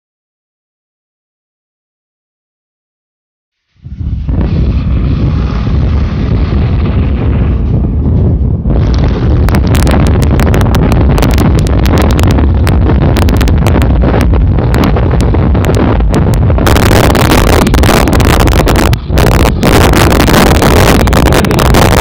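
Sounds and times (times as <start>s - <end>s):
vehicle rumble: 3.8s - 22.0s
wind buffeting microphone: 3.8s - 22.0s.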